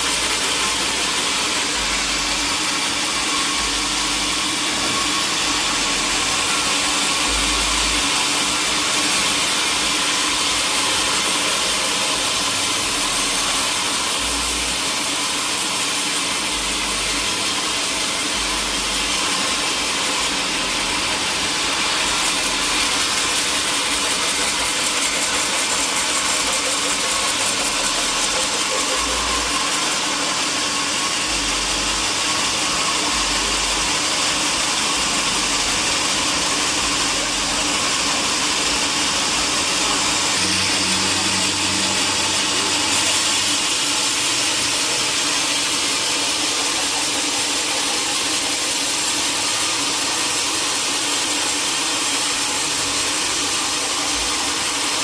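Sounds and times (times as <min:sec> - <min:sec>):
sawmill machinery drone with hiss: 0:00.0 - 0:55.0.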